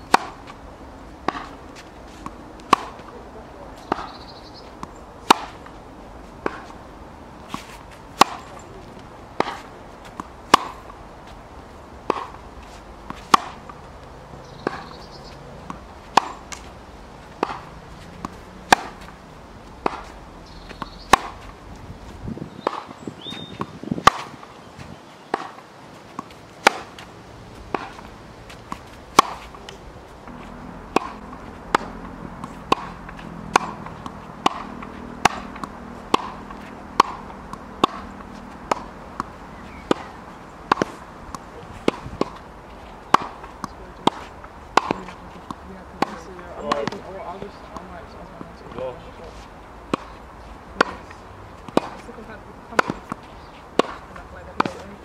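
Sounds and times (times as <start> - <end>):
tennis ball struck by racket: 0.0 - 0.6, 1.2 - 6.8, 7.4 - 11.4, 12.0 - 24.6, 25.2 - 55.0.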